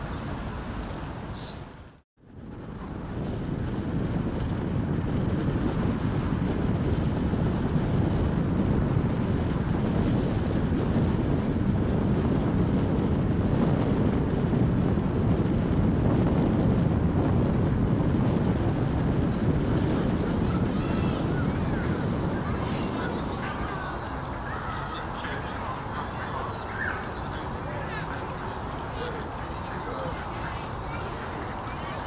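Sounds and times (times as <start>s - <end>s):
vehicle road noise rumble: 0.0s - 32.0s
wind on microphone: 0.0s - 32.0s.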